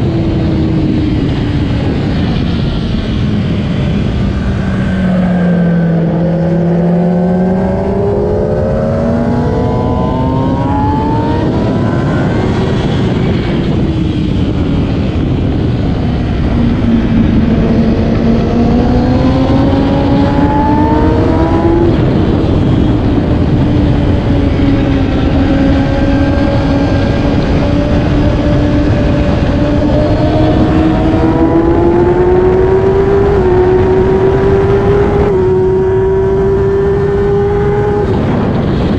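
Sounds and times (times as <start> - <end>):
motorcycle engine accelerating: 0.0 - 38.9
rush of noise: 0.0 - 38.9.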